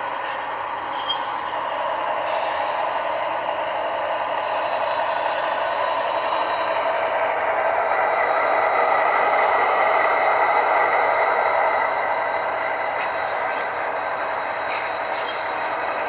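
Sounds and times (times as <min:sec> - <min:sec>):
model locomotives droning: 0:00.0 - 0:16.0.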